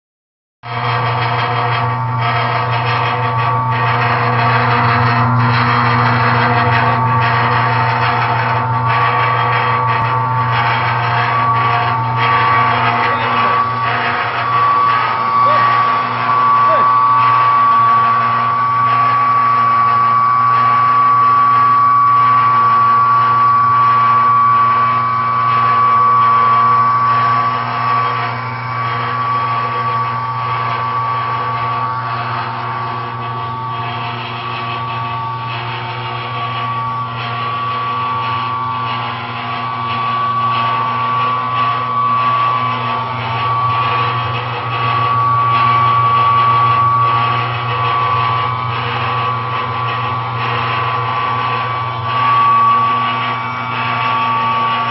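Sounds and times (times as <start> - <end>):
mortar mixer motor hum with whine: 0.6 - 54.9.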